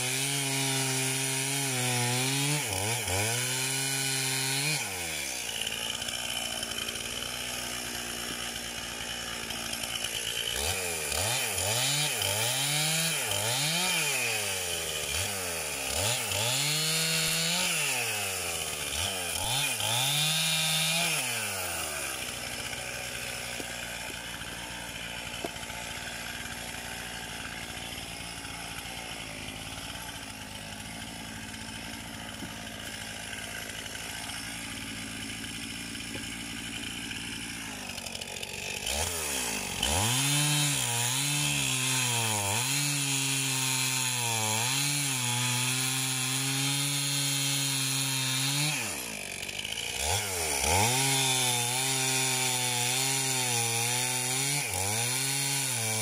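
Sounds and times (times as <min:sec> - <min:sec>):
chainsaw cutting log: 0:00.0 - 0:56.0
chainsaw idling: 0:00.0 - 0:56.0.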